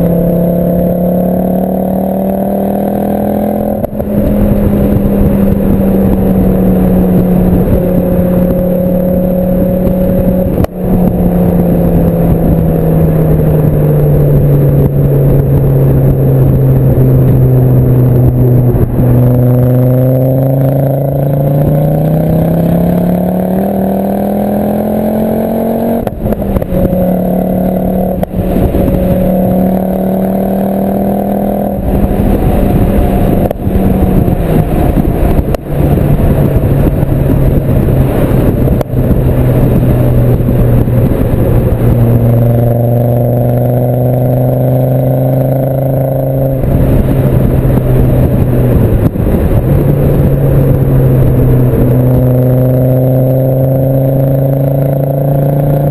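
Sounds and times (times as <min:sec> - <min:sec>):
car exhaust droning while driving: 0:00.0 - 0:55.9.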